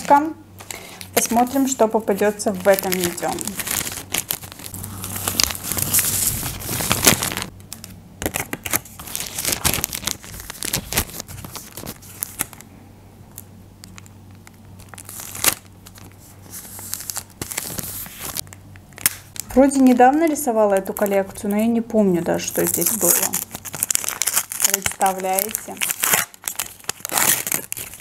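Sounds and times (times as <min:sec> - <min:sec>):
laminated paper crinkling: 0:00.0 - 0:12.7, 0:13.3 - 0:21.6, 0:22.3 - 0:28.0.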